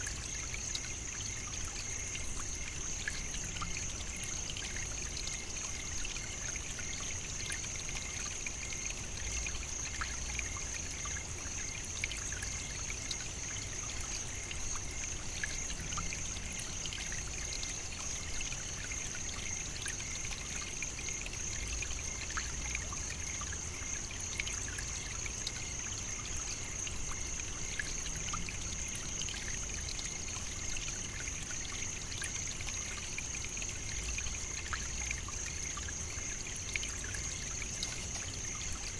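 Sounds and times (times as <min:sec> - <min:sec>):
faint scattered ticks: 0:00.0 - 0:38.9.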